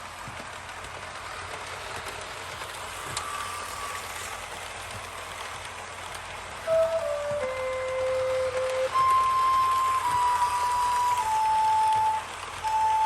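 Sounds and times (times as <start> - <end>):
locomotive engine rumble: 0.0 - 13.0
rushing rail noise: 0.0 - 13.0.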